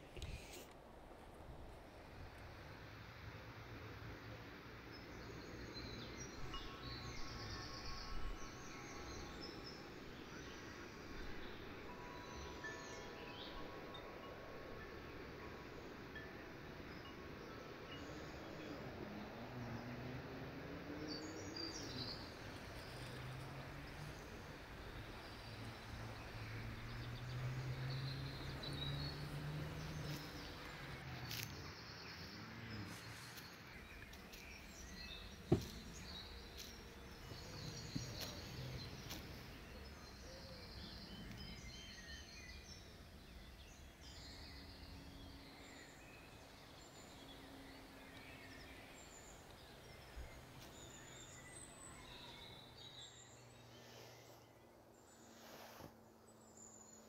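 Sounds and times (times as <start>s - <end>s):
small birds chirping: 4.7s - 57.0s.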